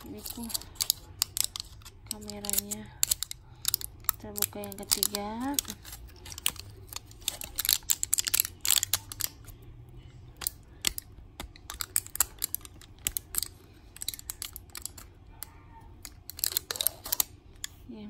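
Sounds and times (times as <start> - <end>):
foil packet crinkling: 0.0 - 9.5, 10.4 - 15.0, 16.1 - 17.3.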